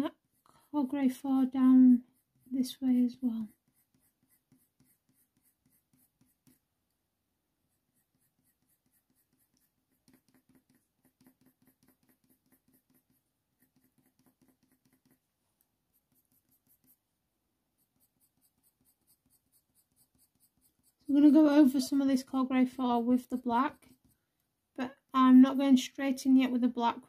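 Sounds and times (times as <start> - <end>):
coloured pencil scratching on paper: 0.0 - 6.8, 7.6 - 25.6.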